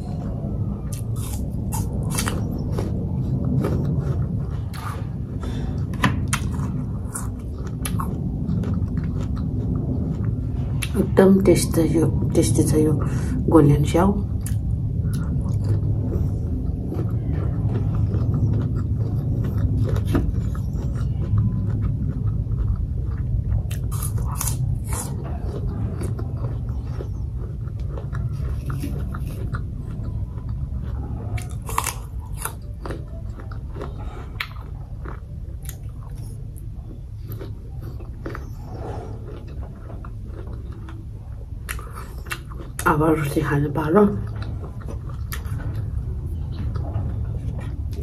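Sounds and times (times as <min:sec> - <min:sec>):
chewing and biting food: 0:00.0 - 0:11.2, 0:11.8 - 0:48.0.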